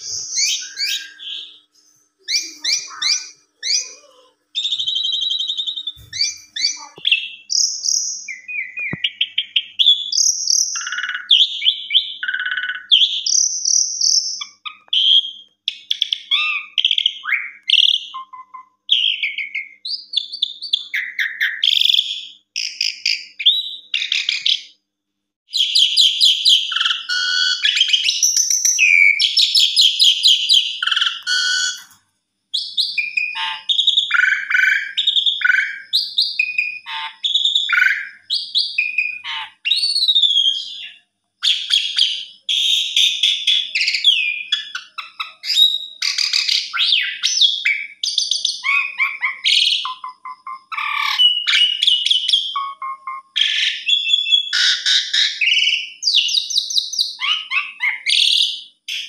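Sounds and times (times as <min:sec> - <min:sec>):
starling singing: 0:00.0 - 0:24.8, 0:25.5 - 0:32.0, 0:32.6 - 0:59.0.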